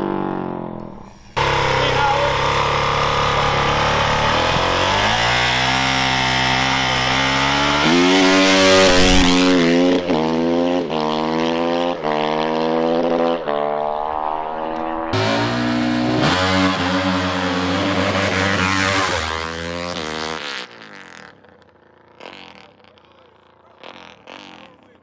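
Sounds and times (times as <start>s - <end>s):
motocross engine idling and revving: 0.0s - 25.0s.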